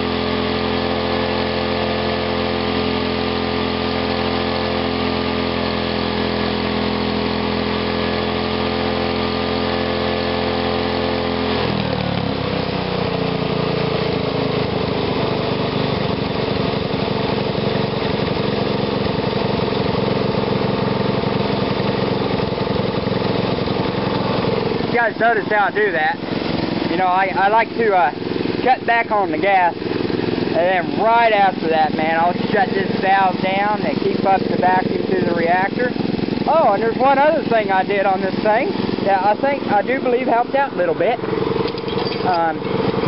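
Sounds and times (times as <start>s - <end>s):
small gas engine running: 0.0s - 43.0s.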